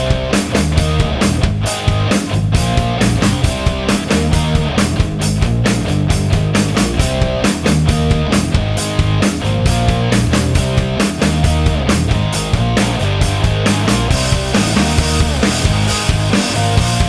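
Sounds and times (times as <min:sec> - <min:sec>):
loud music with driving beat: 0:00.0 - 0:17.0.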